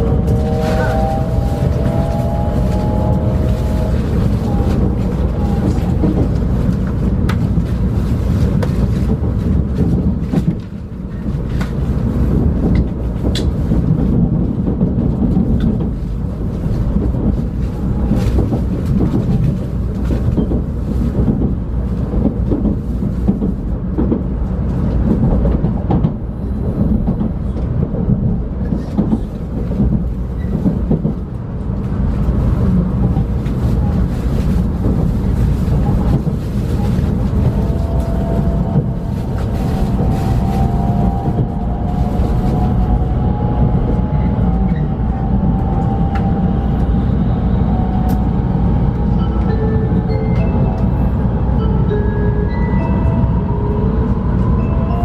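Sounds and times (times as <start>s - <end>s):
train rumble inside cabin: 0.0s - 55.0s.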